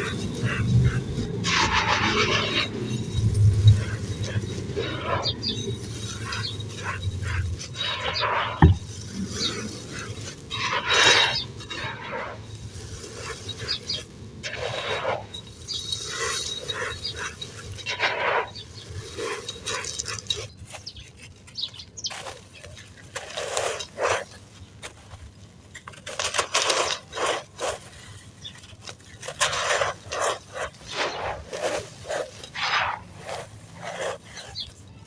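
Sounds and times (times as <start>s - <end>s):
sand crunching in a clay pot: 0.0s - 35.0s.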